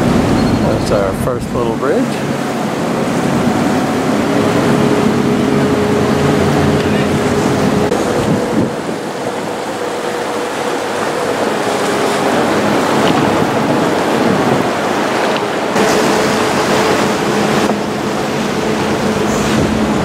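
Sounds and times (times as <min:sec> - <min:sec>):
boat engine drone: 0:00.0 - 0:20.0
water rushing along hull: 0:00.0 - 0:20.0
wind buffeting microphone: 0:00.0 - 0:20.0.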